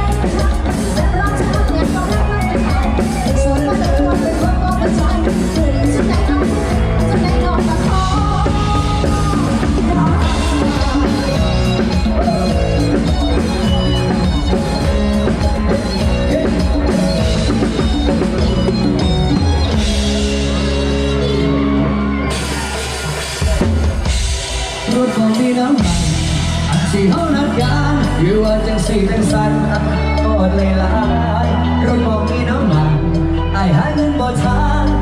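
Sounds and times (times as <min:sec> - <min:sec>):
drum kit beat: 0:00.0 - 0:21.6, 0:22.2 - 0:33.1
deep bass line: 0:00.0 - 0:35.0
held melodic notes: 0:00.2 - 0:34.5.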